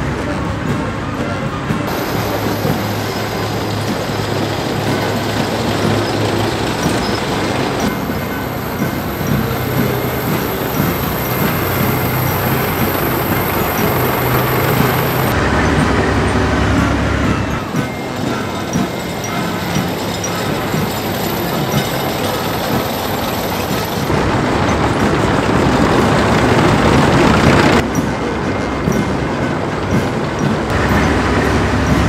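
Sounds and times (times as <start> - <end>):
heavy diesel engines droning: 0.0 - 32.0
tracks clattering on cobblestones: 0.0 - 32.0.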